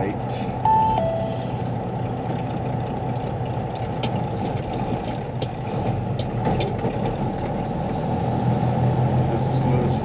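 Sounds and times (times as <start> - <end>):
road noise inside cab: 0.0 - 10.0
truck diesel engine drone: 0.0 - 10.0.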